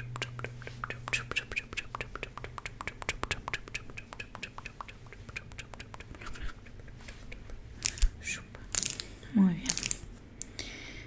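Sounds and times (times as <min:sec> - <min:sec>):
wet mouth clicks and smacks: 0:00.0 - 0:09.1.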